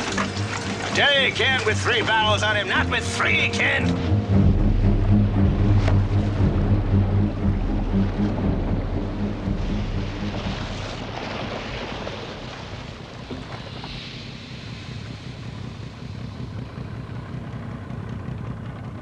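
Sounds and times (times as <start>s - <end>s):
seawater churning in a wake: 0.0s - 3.8s, 4.4s - 19.0s
boat engine rumble: 0.0s - 19.0s
wind: 3.6s - 19.0s.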